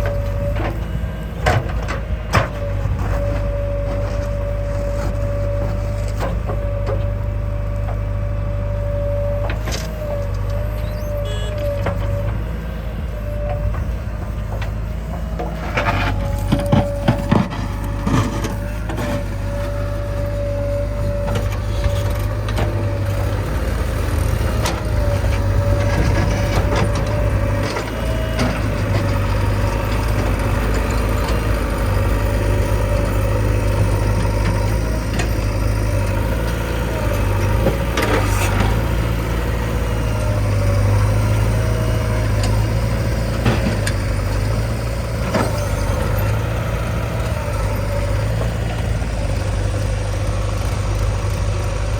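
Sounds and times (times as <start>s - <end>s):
engine knocks and clunks: 0.0s - 51.9s
heavy diesel engine running: 0.0s - 51.9s.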